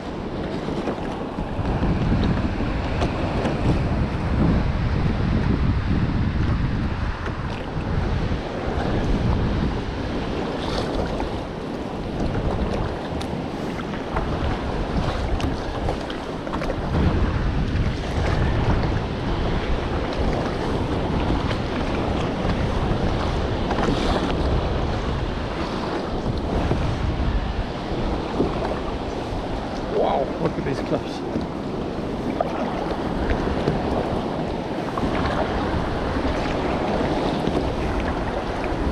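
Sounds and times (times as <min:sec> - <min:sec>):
water washing around kayak: 0:00.0 - 0:38.9
wind buffeting microphone: 0:00.0 - 0:38.9.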